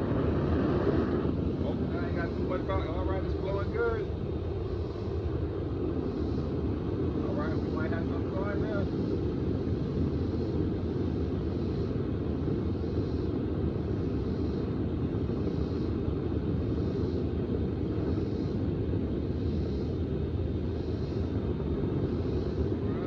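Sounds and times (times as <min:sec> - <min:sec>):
furnace burner roaring: 0:00.0 - 0:23.0.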